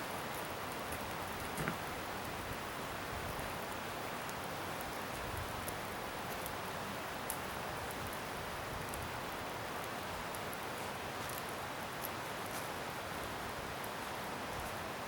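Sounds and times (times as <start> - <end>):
bonfire hissing and crackling: 0.0 - 15.0.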